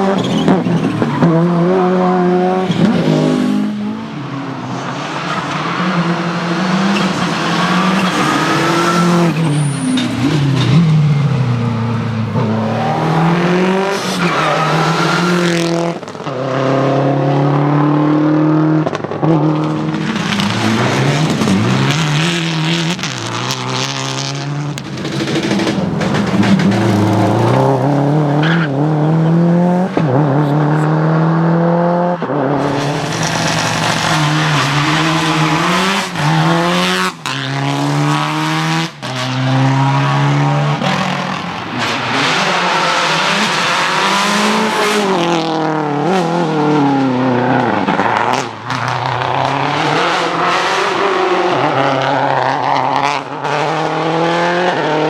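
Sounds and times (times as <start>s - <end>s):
rally car engine revving hard: 0.0s - 4.2s, 5.4s - 55.0s.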